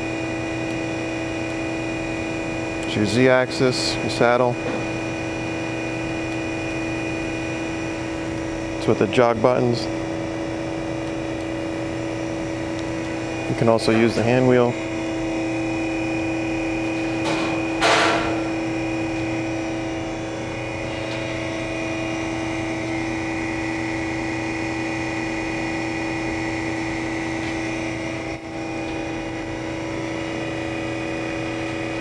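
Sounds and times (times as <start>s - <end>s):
grinder machine hum: 0.0s - 32.0s.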